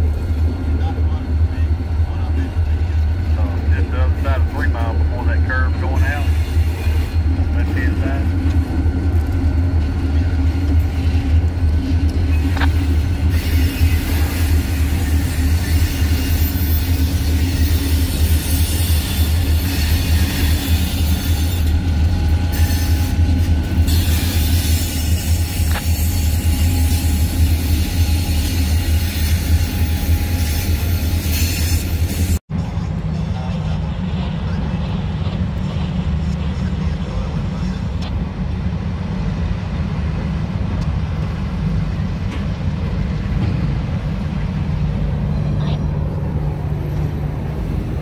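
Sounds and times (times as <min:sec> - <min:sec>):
locomotive engine rumble: 0:00.0 - 0:48.0
wheel-on-rail noise: 0:00.0 - 0:48.0.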